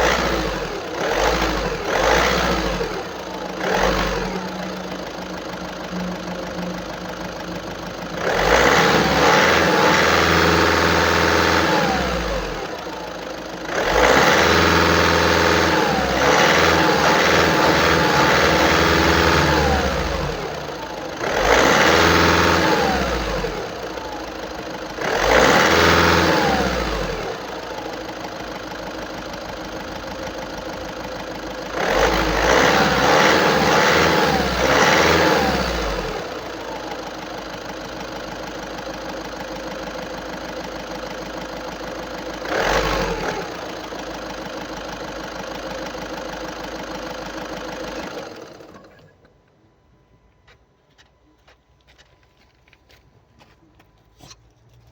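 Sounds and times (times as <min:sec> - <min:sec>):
diesel engine idling and revving: 0:00.0 - 0:49.5.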